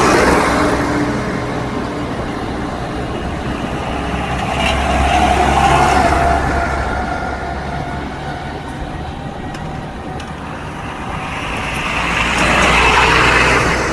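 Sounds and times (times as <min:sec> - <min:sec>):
tractors driving past: 0:00.0 - 0:13.9.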